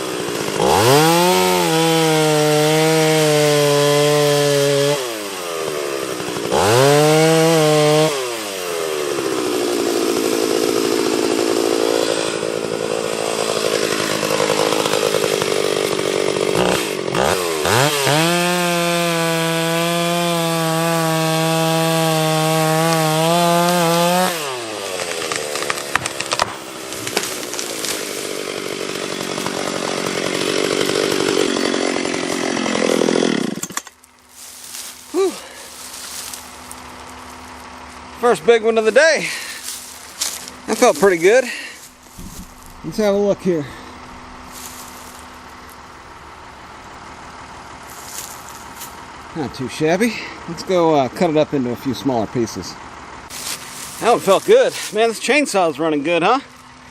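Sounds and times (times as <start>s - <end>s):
chainsaw cutting a tree: 0.0s - 56.9s.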